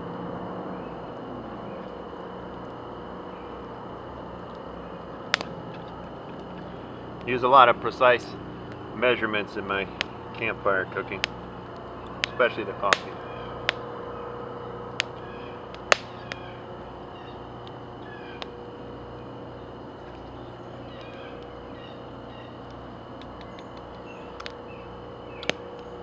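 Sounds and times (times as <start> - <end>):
steady background hum: 0.0 - 26.0
campfire crackling and popping: 1.1 - 26.0.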